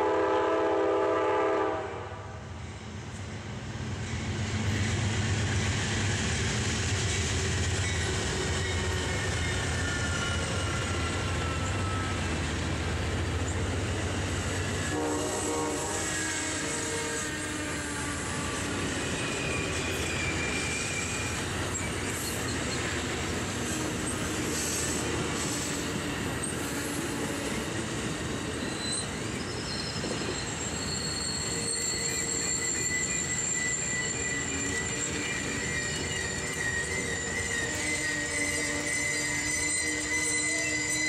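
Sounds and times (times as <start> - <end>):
train wheels rumbling on rails: 0.0 - 41.0
train wheels squealing: 2.5 - 41.0.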